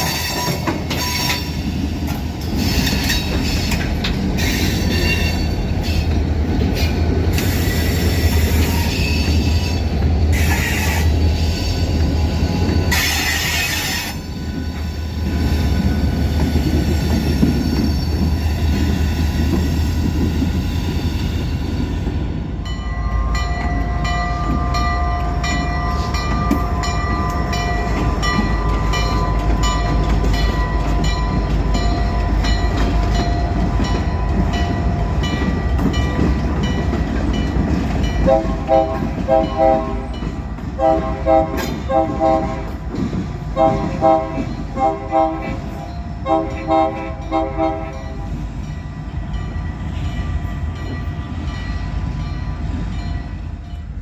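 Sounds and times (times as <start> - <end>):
freight train cars rumbling: 0.0 - 54.0.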